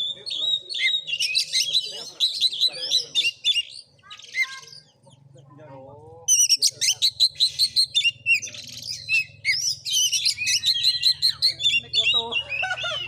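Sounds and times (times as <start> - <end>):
songbird singing whistled notes: 0.0 - 5.0, 6.3 - 13.0.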